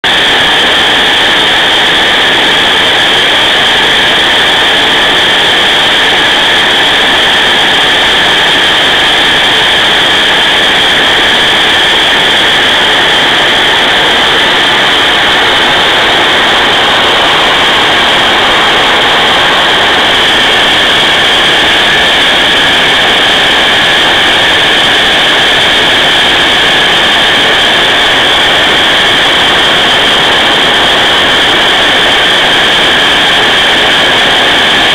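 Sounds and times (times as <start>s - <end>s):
vacuum cleaner motor whining: 0.0s - 34.9s.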